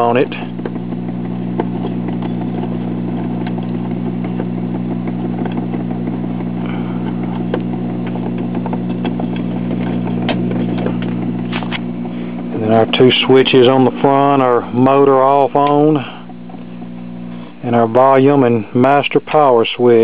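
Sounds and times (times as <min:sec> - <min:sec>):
electrical hum from speaker: 0:00.0 - 0:20.0.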